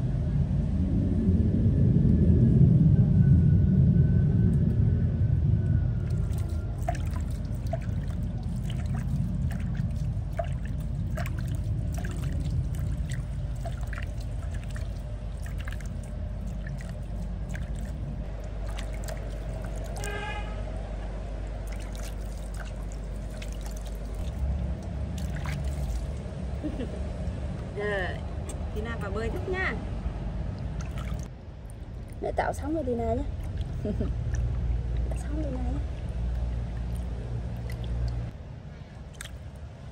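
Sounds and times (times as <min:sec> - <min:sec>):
steady low rumble: 0:00.0 - 0:39.9
water trickling and splashing: 0:06.0 - 0:39.9.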